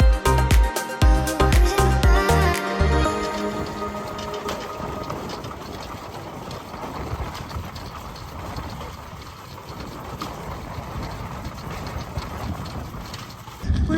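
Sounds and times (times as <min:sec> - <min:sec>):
low rumbling noise: 0:00.0 - 0:13.9.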